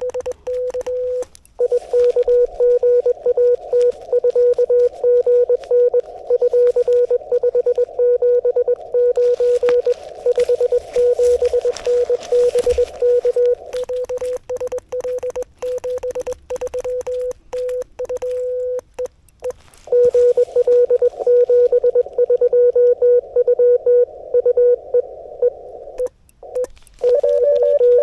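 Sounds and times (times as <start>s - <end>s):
receiver hiss: 0.0s - 22.5s
higher morse code tone: 0.0s - 25.1s, 26.0s - 28.0s
morse code tone: 0.0s - 25.1s, 26.0s - 28.0s.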